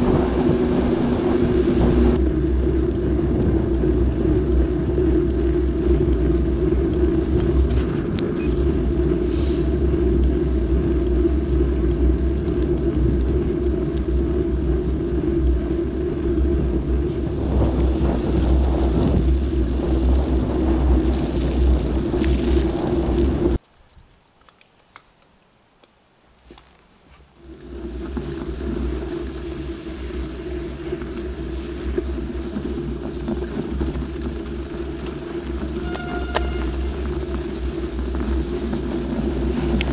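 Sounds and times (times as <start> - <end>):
wind rumble on microphone: 0.0 - 24.0, 27.3 - 39.9
mountain bike riding noise: 0.0 - 39.9.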